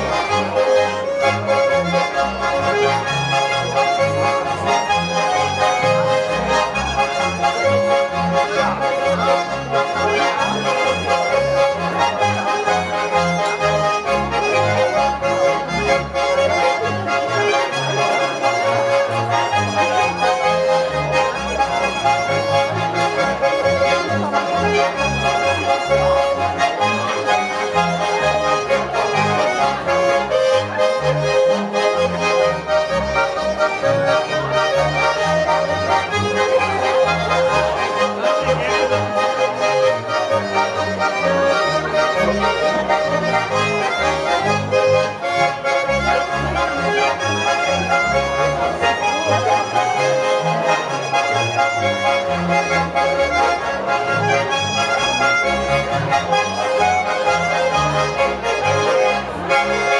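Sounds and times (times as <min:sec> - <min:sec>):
button accordions playing folk dance: 0:00.0 - 0:59.9
double bass playing: 0:00.0 - 0:59.9.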